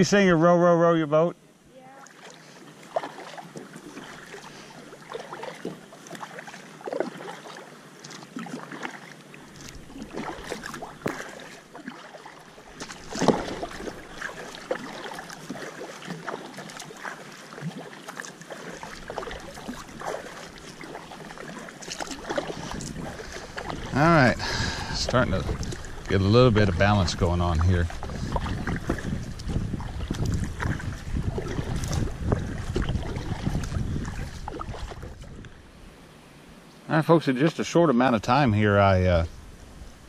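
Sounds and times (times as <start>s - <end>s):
paddle splashing water: 1.7s - 36.7s
water running off paddle: 1.8s - 35.6s.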